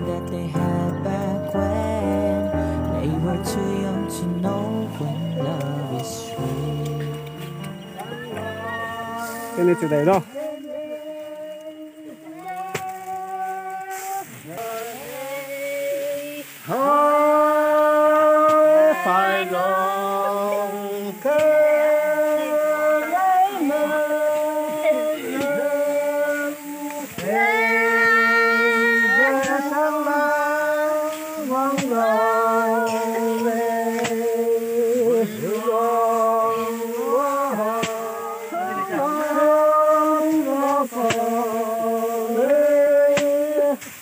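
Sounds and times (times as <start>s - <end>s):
voices singing unaccompanied: 0.0s - 44.0s.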